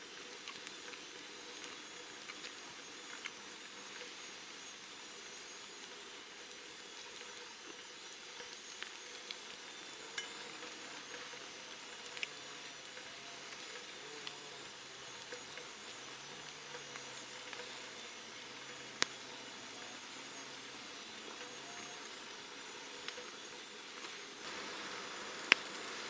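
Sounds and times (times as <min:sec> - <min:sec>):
campfire crackling: 0:00.0 - 0:26.0
steady hiss: 0:00.0 - 0:26.0.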